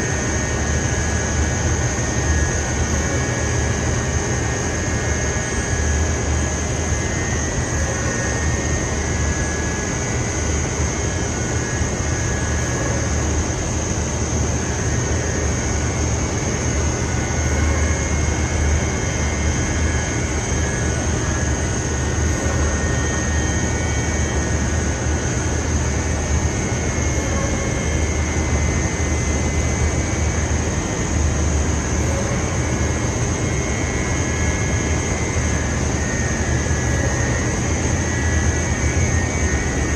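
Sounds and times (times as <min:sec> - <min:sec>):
steady high whine: 0:00.0 - 0:39.9.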